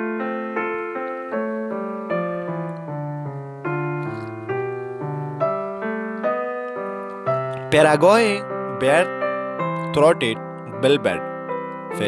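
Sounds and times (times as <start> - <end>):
solo piano playing chords: 0.0 - 12.0.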